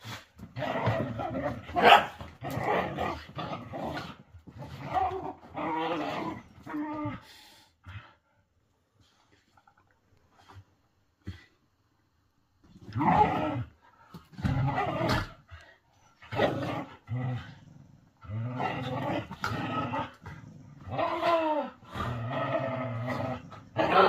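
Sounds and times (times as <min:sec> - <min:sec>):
dogs growling in play: 0:00.0 - 0:08.4, 0:12.6 - 0:24.0.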